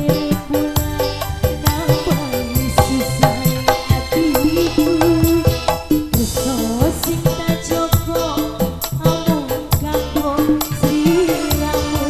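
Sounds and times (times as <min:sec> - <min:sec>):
drums keeping a steady beat: 0:00.0 - 0:12.0
live band music: 0:00.0 - 0:12.0
woman singing into a microphone: 0:00.0 - 0:12.0.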